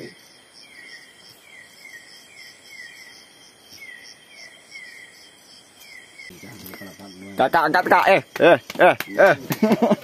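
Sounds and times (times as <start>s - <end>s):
high-pitched insect drone: 0.0s - 8.6s
cricket-like chirping: 0.0s - 10.0s.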